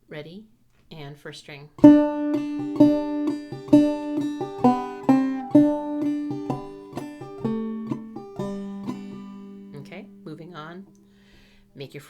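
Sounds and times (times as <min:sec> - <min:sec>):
banjo picking: 0:01.8 - 0:11.8.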